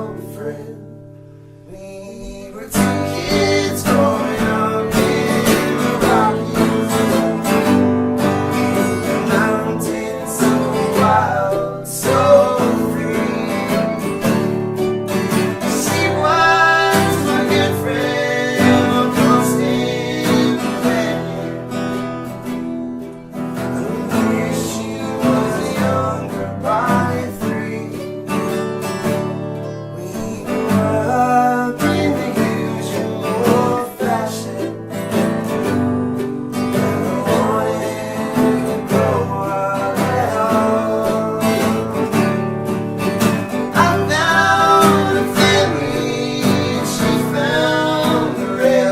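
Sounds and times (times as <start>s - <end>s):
acoustic guitar folk song: 0.0s - 48.9s.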